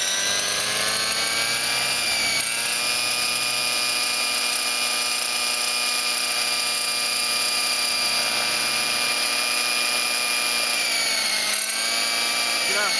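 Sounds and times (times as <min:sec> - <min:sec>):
model helicopter engine whining: 0:00.0 - 0:12.9.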